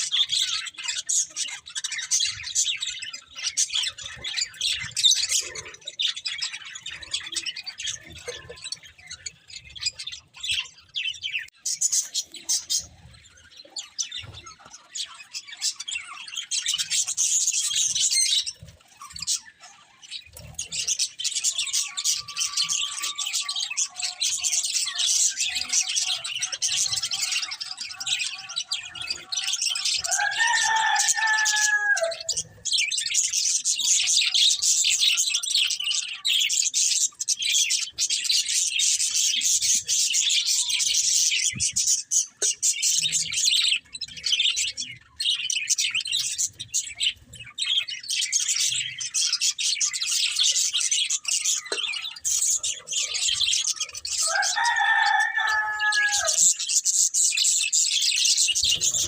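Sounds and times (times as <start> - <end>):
budgerigars chirping and chattering: 0.0 - 59.0.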